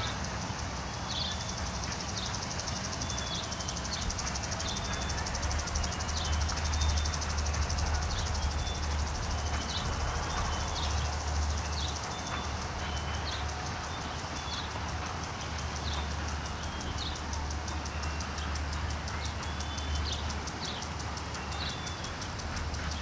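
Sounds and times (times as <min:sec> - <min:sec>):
freight train cars rumbling: 0:00.0 - 0:23.0
wheels clicking over rail joints: 0:00.0 - 0:23.0.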